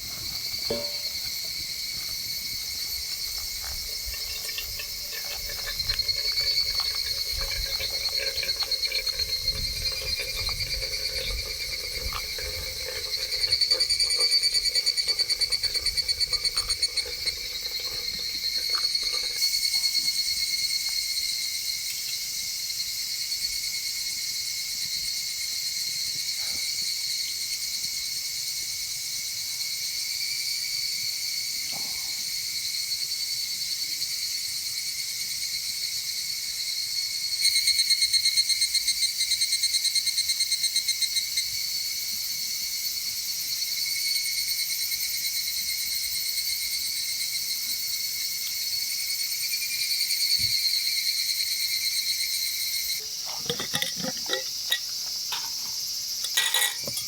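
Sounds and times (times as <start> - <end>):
insects trilling: 0.0 - 57.0
rapidly pulsing insect call: 0.0 - 57.0.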